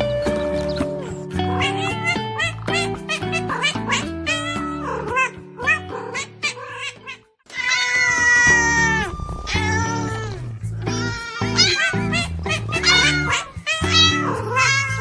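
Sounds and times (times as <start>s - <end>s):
background music: 0.0s - 15.0s
cat meowing: 1.6s - 15.0s.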